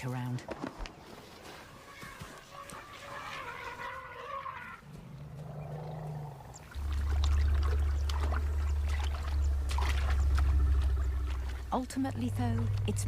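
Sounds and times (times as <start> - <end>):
elephant rumbling: 1.7 - 13.0.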